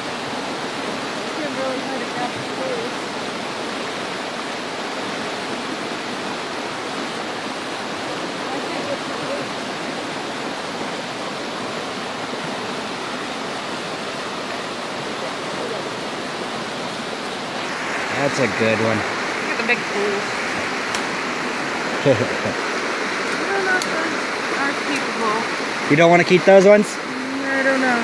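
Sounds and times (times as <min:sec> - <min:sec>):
water rushing: 0:00.0 - 0:28.0.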